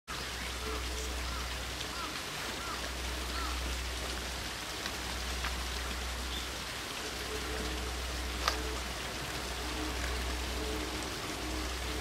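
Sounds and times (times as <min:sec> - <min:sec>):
steady outdoor hiss: 0:00.1 - 0:12.0.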